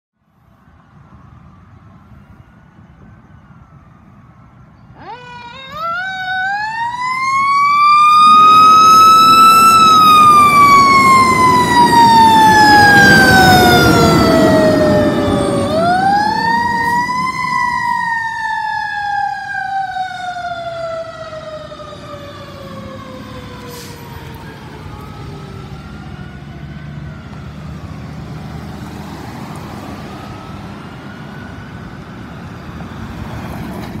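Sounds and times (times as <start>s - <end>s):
fire engine siren wailing: 0.4s - 34.0s.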